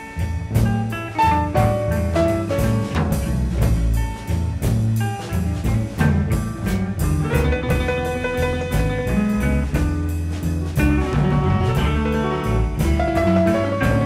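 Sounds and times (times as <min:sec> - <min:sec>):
blues band playing: 0:00.0 - 0:14.0.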